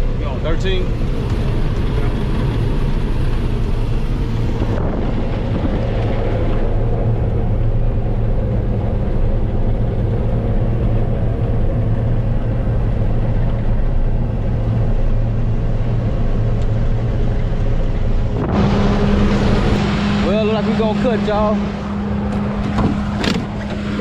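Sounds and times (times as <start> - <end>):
combine engine drone: 0.0 - 24.0
higher steady hum: 0.0 - 24.0.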